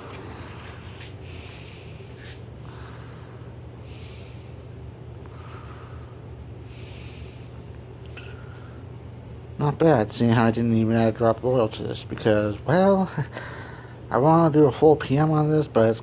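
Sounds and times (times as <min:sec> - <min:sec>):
oscillating fan running: 0:00.0 - 0:16.0.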